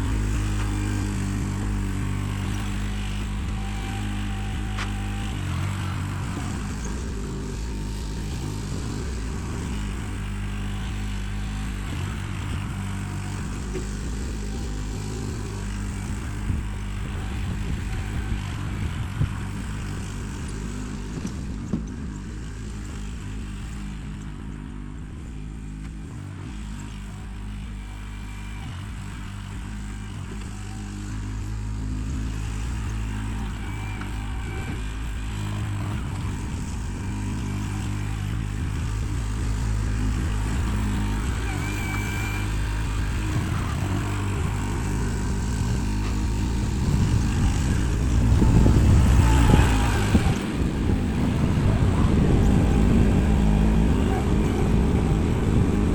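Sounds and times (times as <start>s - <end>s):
backhoe engine running: 0.0s - 55.9s.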